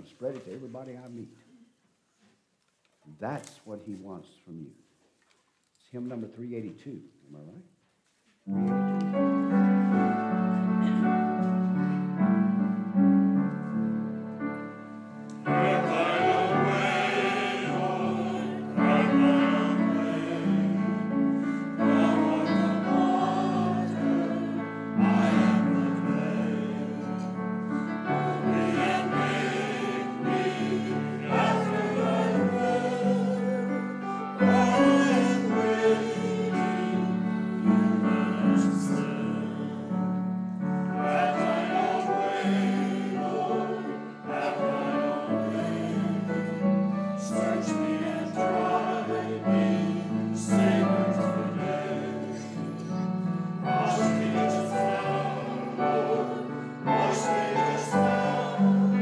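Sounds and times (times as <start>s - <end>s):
choir and congregation singing a hymn: 8.6s - 59.0s.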